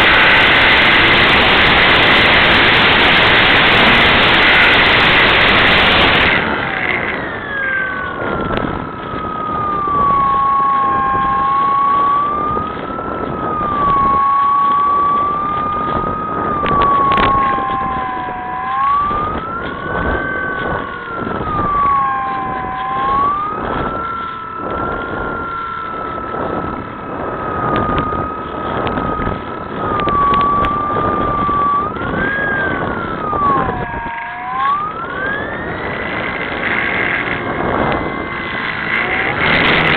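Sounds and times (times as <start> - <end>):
model plane motor whining: 0.0 - 39.9
wind buffeting microphone: 0.0 - 39.9.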